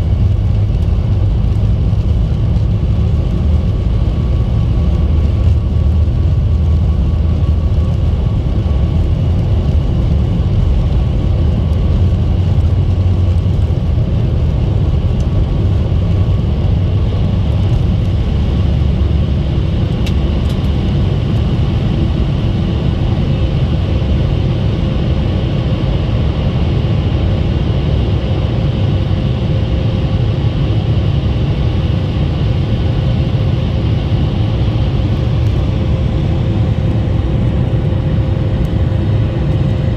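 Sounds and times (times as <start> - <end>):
faint engine whines: 0.0 - 39.9
jet engine roar in cabin: 0.0 - 39.9.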